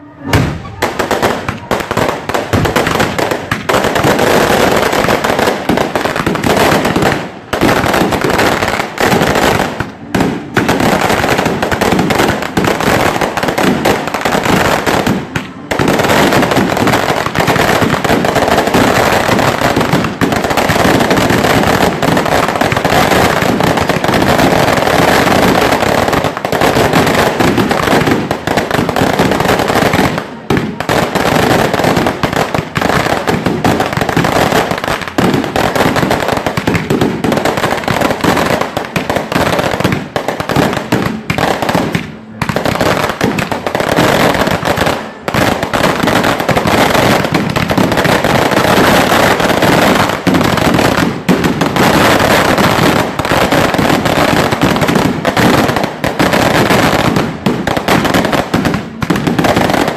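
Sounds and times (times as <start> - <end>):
firecracker bangs and crackling: 0.0 - 59.9.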